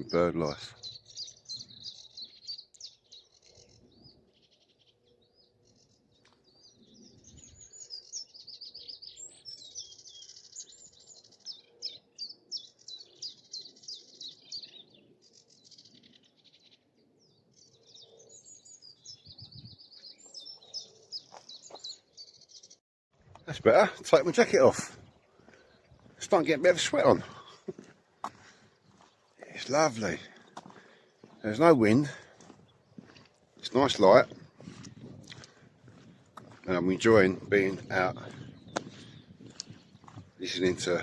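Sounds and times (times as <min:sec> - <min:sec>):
warblers singing rapid chattering song: 0:00.0 - 0:22.8, 0:23.5 - 0:27.7, 0:28.4 - 0:34.6, 0:35.4 - 0:41.0.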